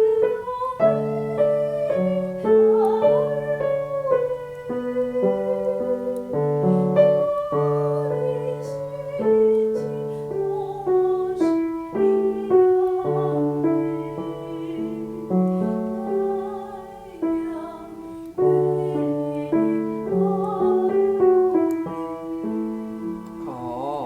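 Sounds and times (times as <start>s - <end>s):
woman singing with vibrato: 0.0s - 23.5s
piano chords: 0.0s - 24.0s.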